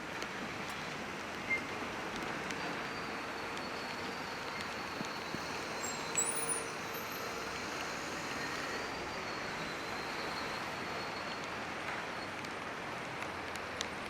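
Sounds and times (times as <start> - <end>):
traffic on wet streets: 0.0 - 14.0.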